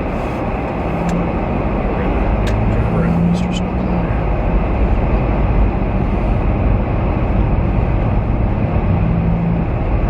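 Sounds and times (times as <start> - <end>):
car driving road and engine noise: 0.0 - 10.0.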